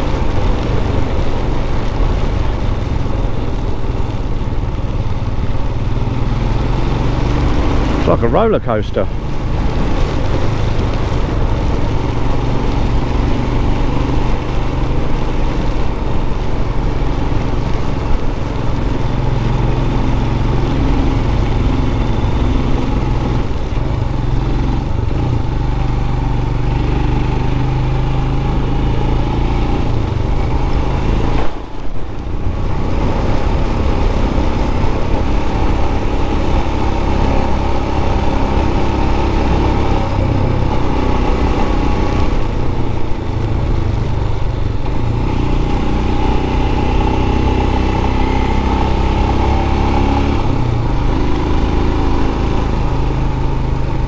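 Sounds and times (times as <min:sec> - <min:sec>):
wind rush: 0:00.0 - 0:52.9
motorcycle engine running: 0:00.0 - 0:54.0.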